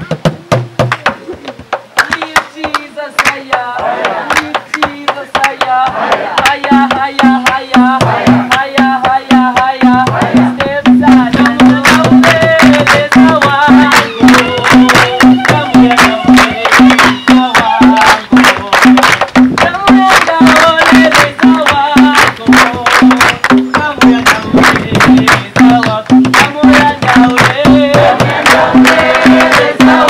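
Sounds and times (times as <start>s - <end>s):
song with voice and hand percussion: 0.0s - 30.0s.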